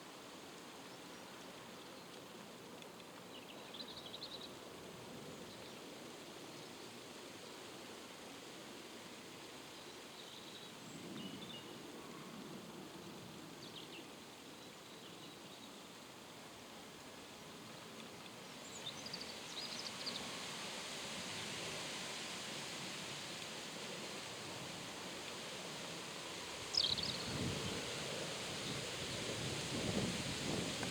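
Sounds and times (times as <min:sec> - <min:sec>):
outdoor background noise: 0:00.0 - 0:30.9.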